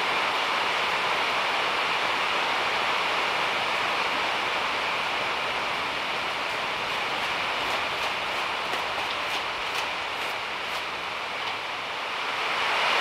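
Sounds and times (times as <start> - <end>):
heavy rain on car and ground: 0.0 - 13.0.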